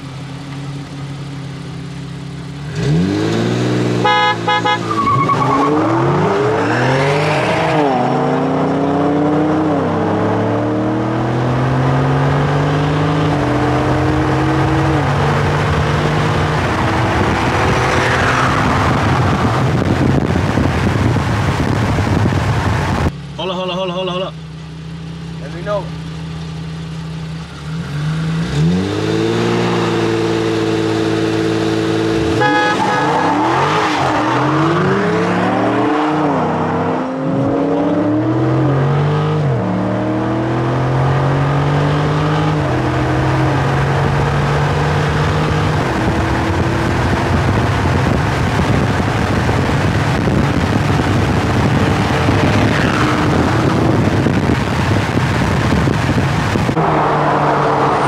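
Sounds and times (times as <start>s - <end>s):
car engines revving and accelerating: 0.0s - 58.0s
road and wind noise: 0.0s - 58.0s.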